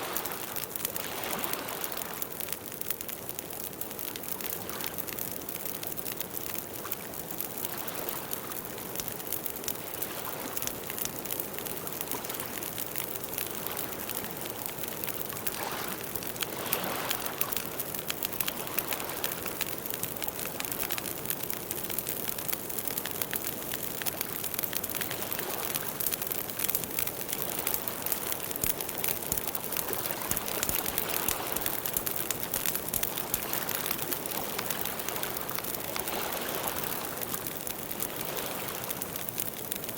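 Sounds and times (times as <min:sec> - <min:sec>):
campfire wood crackling and popping: 0:00.0 - 0:39.9
soft fire hiss: 0:00.0 - 0:39.9.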